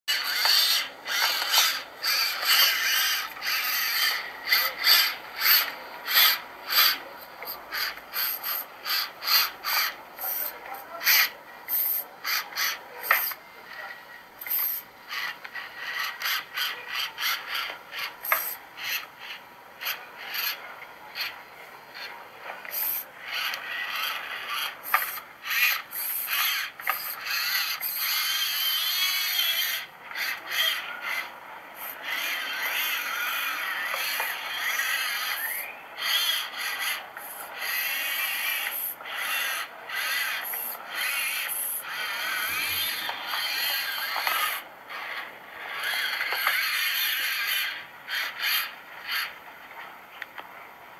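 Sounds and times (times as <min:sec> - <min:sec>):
toy truck electric motor whining: 0:00.1 - 0:50.4.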